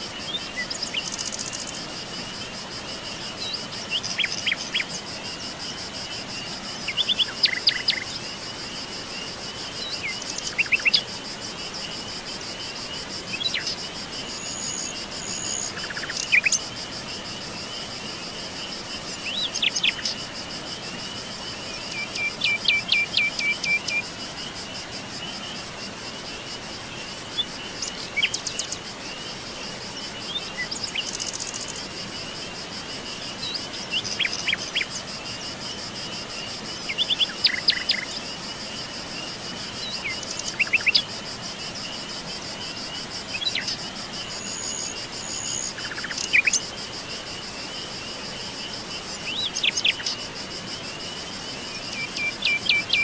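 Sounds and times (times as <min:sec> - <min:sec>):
songbirds calling and singing: 0:00.0 - 0:02.6, 0:03.2 - 0:05.4, 0:06.0 - 0:11.2, 0:12.4 - 0:32.4, 0:33.0 - 0:53.0
insects trilling: 0:00.0 - 0:53.0.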